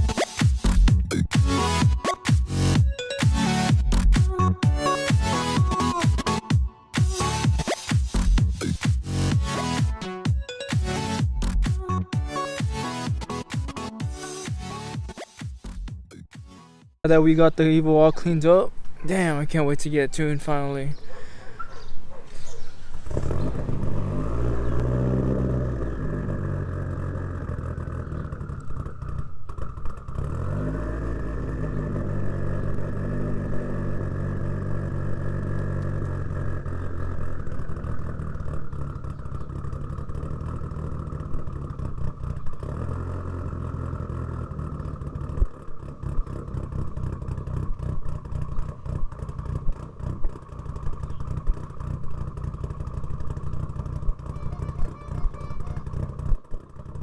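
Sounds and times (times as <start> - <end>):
car engine revving and idling: 0.0 - 16.8, 22.4 - 57.0.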